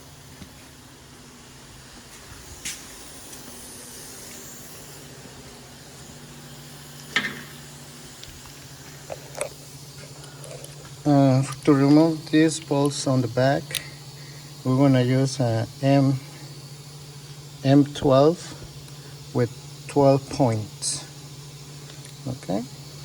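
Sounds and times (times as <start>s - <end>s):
low hum and hiss: 0.0s - 23.0s.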